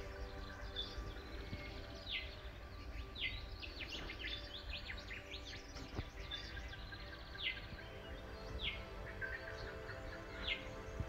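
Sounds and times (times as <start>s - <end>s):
birds singing and chirping: 0.0s - 11.0s.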